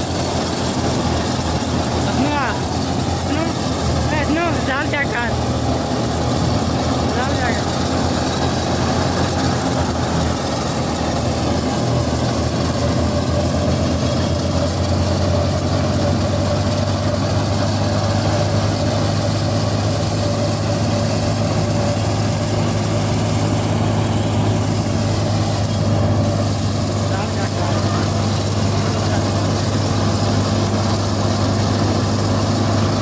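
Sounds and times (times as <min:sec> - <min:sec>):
thresher rushing noise: 0:00.0 - 0:33.0
tractor engine hum: 0:00.0 - 0:33.0.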